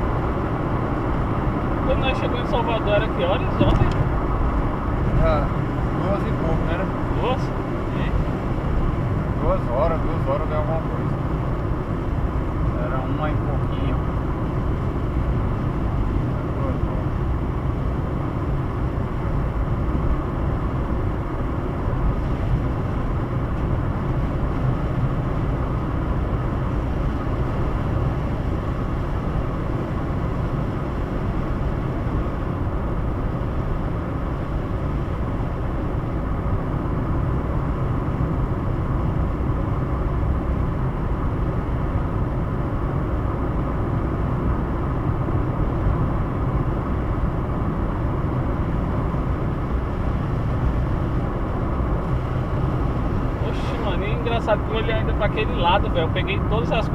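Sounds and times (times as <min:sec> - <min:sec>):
car road and engine noise: 0:00.0 - 0:56.9.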